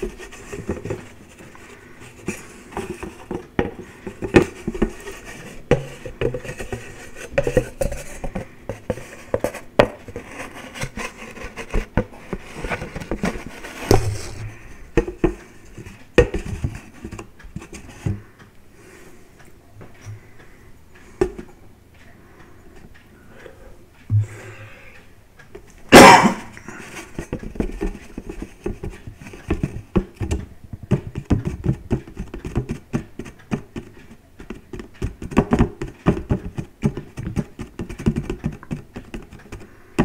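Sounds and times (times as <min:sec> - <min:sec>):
fingers tapping on paper plate: 0:00.0 - 0:18.4, 0:26.0 - 0:40.0.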